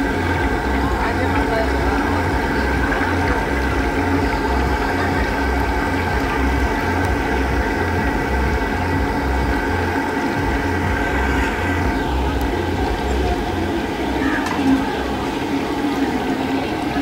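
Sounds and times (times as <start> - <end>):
low pulsing hum: 0.0 - 17.0
oil bubbling and sizzling: 0.0 - 17.0.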